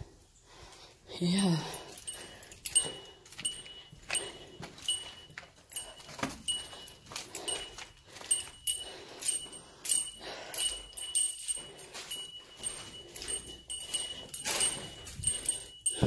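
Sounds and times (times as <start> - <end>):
faint gritty jingle: 1.1 - 16.0
footsteps crunching over rubble: 1.2 - 16.0.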